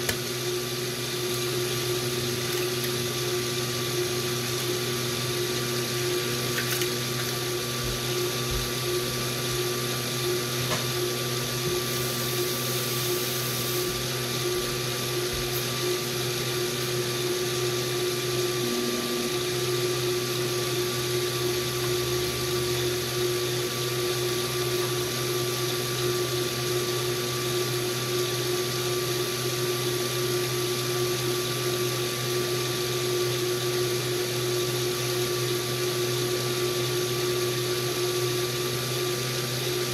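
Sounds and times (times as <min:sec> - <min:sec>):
stirring motor humming: 0:00.0 - 0:39.9.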